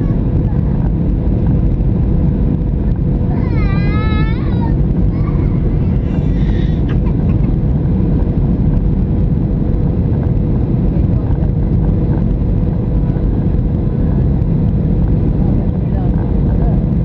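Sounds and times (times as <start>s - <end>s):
airplane cabin engine rumble: 0.0s - 17.0s
steady hum: 0.0s - 17.0s.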